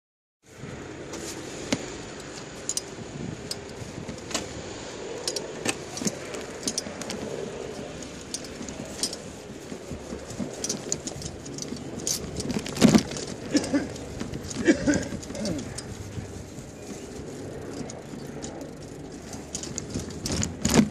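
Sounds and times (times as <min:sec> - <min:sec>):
wind noise: 0:00.5 - 0:20.9
wheels rumbling over paving stones: 0:00.8 - 0:20.9
trailer frame rattles and clicks: 0:01.1 - 0:20.9.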